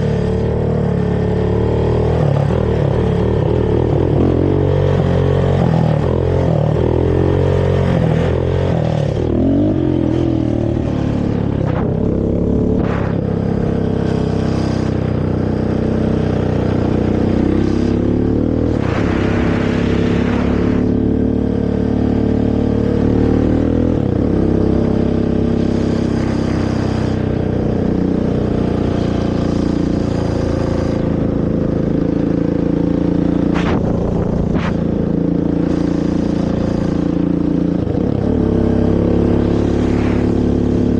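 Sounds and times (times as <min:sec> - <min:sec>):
rush of noise: 0:00.0 - 0:24.7, 0:27.8 - 0:40.9
quad engine revving: 0:00.0 - 0:40.9.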